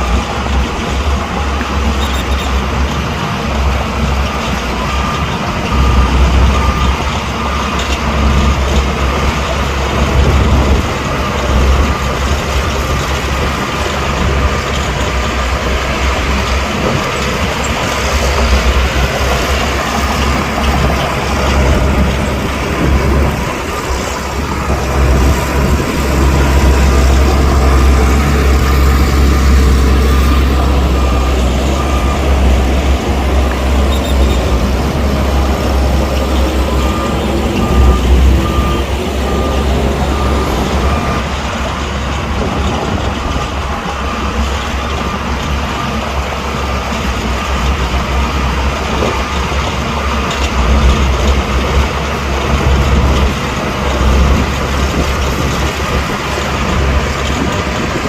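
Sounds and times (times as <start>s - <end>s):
reversing alarm beeping: 0.0s - 2.8s, 3.7s - 58.0s
heavy diesel machinery running: 0.0s - 58.0s.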